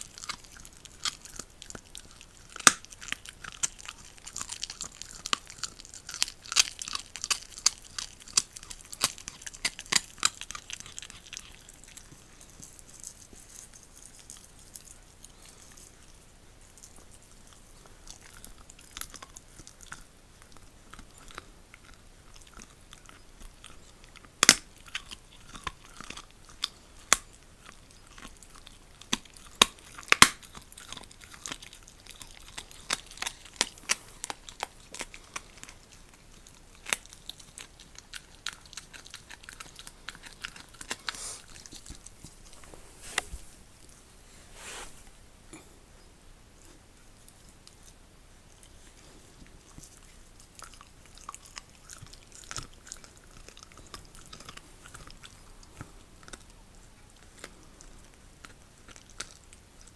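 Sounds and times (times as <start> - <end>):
dog chewing bone: 0.0 - 43.3, 46.7 - 59.9.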